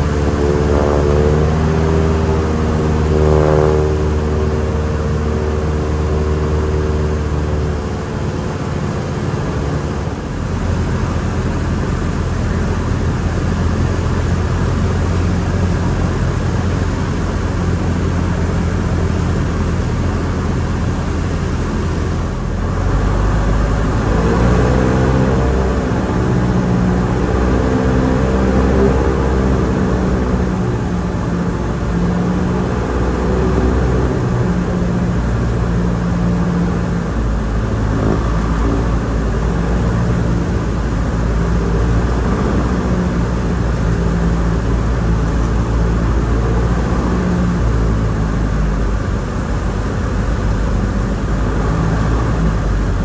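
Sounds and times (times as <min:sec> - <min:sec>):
aircraft engine and propeller drone: 0:00.0 - 0:53.0.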